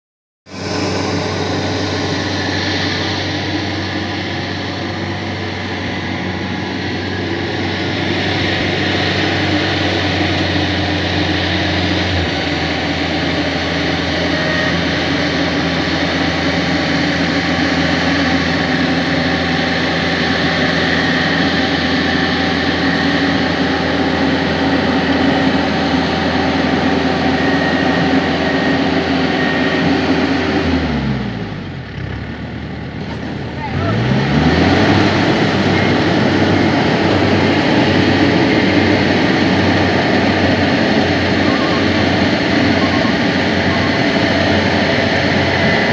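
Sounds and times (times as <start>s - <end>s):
combine harvester engine droning: 0.5s - 45.9s.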